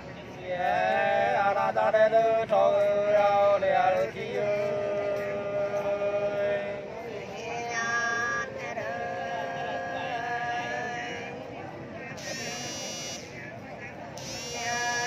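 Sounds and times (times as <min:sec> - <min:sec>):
unaccompanied folk singing: 0:00.0 - 0:12.4, 0:13.3 - 0:15.0.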